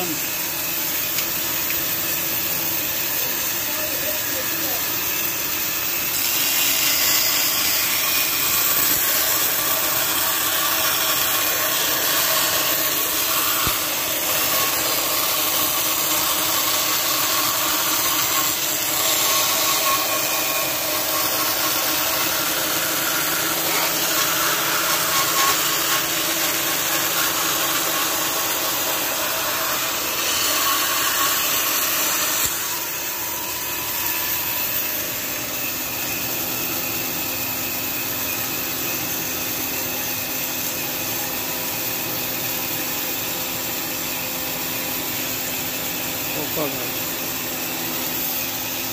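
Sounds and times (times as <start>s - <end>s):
band saw cutting wood: 0.0s - 48.9s.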